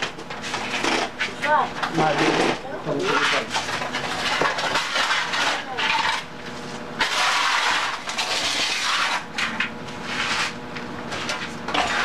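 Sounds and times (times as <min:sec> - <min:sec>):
masonry scraping and breaking: 0:00.4 - 0:12.0.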